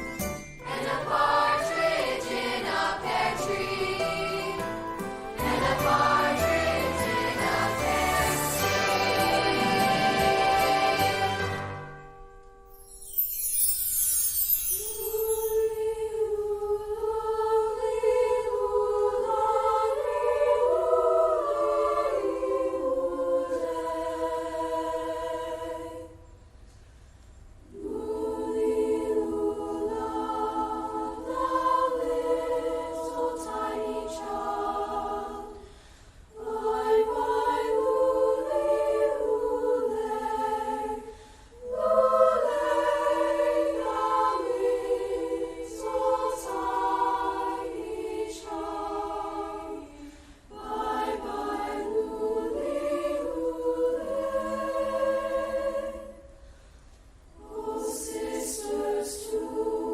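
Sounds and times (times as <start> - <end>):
choir singing: 0.0 - 12.2, 12.8 - 26.3, 27.6 - 56.4, 57.3 - 59.9.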